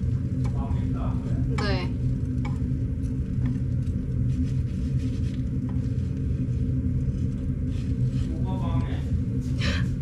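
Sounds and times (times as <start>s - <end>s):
low rumble with hum: 0.0s - 10.0s.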